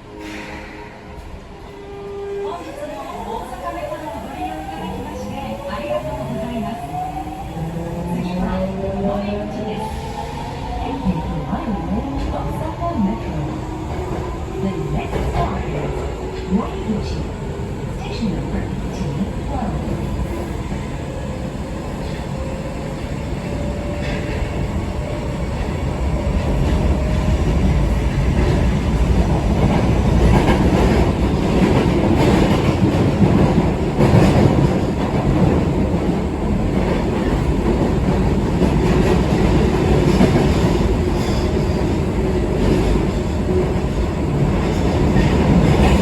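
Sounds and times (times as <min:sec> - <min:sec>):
subway train running: 0:00.0 - 0:46.0.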